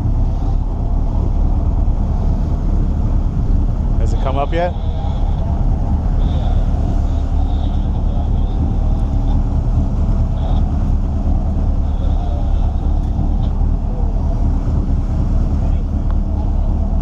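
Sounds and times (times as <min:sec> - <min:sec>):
boat engine rumble: 0:00.0 - 0:17.0.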